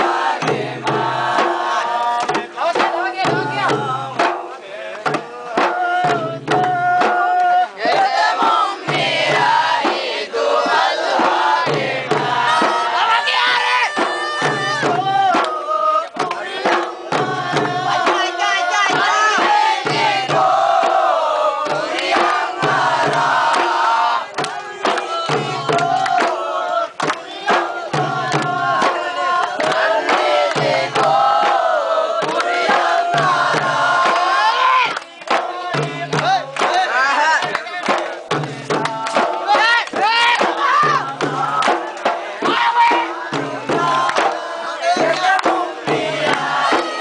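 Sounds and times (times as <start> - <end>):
hand-beaten barrel drums: 0.0 - 47.0
men chanting together: 0.0 - 47.0.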